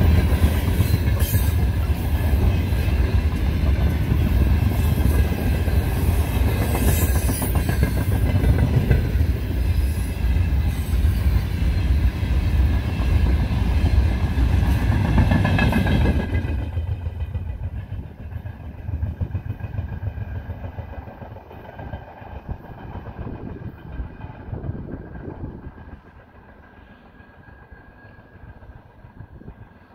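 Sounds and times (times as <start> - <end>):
freight train wheels clattering: 0.0 - 29.9.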